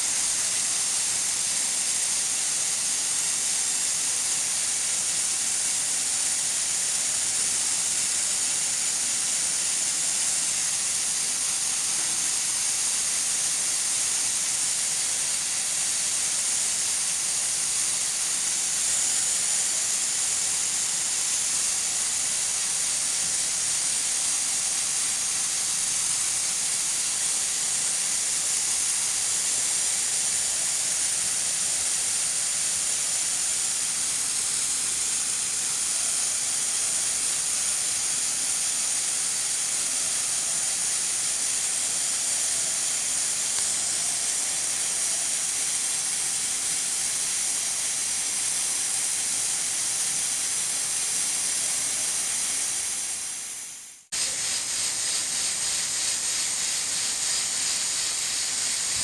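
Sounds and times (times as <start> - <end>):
pressure cooker steam hissing: 0.0 - 59.0.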